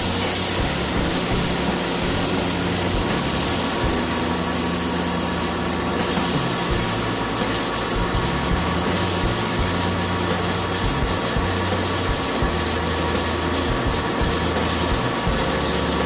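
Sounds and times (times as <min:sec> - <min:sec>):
low hum shifting in pitch: 0:00.0 - 0:16.0
machine whine: 0:00.0 - 0:16.0
thin high tone: 0:00.0 - 0:16.0.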